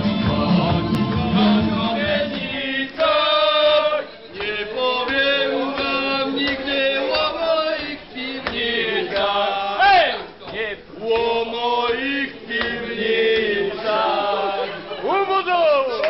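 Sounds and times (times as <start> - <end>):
men singing together: 0.0 - 15.0.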